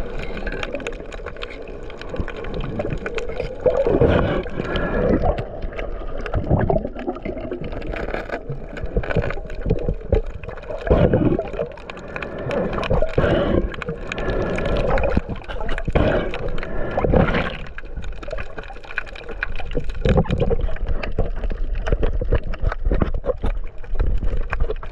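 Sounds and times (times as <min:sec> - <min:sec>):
water gurgling and bubbling: 0:00.0 - 0:24.9.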